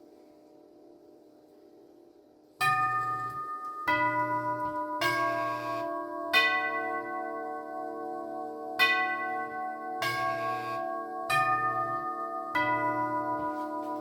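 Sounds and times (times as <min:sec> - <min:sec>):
door chime tubes ringing: 0:02.6 - 0:14.0.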